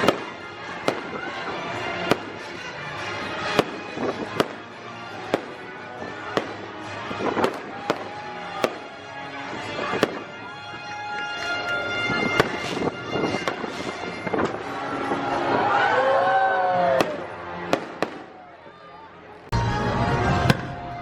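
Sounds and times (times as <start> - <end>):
fireworks bangs: 0.0 - 15.8, 17.0 - 18.4, 20.3 - 21.0
musical soundtrack: 0.0 - 21.0.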